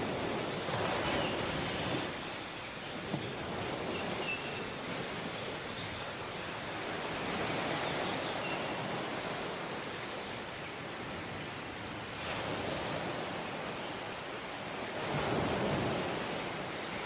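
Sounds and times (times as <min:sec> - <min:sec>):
waves washing on beach: 0:00.0 - 0:17.0.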